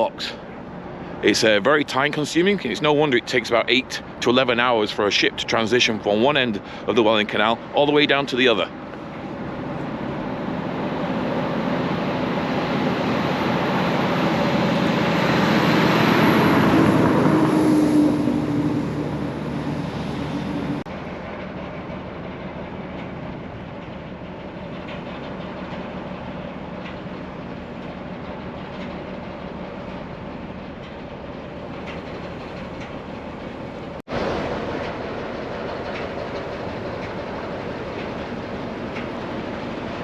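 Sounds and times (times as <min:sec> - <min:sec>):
ship engine rumble: 0:00.0 - 0:40.0.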